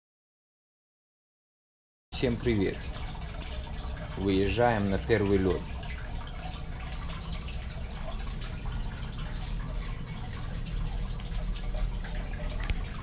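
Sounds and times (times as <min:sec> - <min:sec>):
aquarium water trickling: 0:02.2 - 0:13.0.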